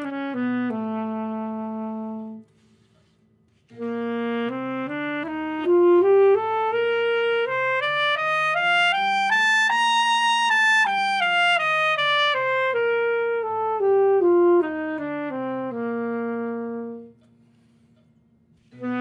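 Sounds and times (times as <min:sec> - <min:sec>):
alto saxophone playing a scale: 0:00.0 - 0:02.6, 0:03.7 - 0:17.5, 0:18.7 - 0:19.0.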